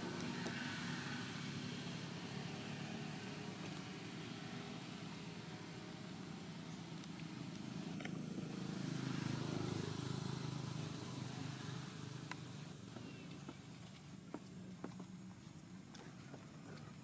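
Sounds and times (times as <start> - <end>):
motor vehicle passing: 0.0 - 17.0.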